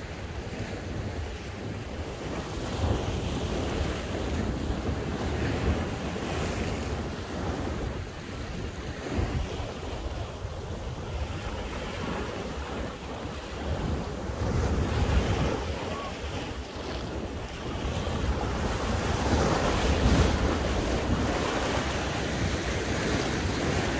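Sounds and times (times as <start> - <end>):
sea surf washing in: 0.0 - 23.9
wind buffeting microphone: 0.0 - 23.9.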